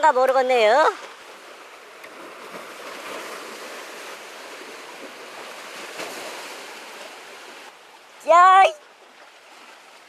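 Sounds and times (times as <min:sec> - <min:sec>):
sea waves washing against breakwater: 0:00.0 - 0:10.0.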